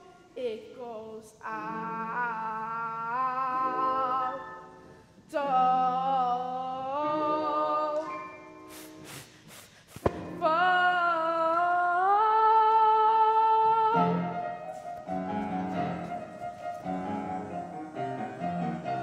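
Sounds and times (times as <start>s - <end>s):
piano chords: 1.5s - 9.3s, 10.1s - 19.0s.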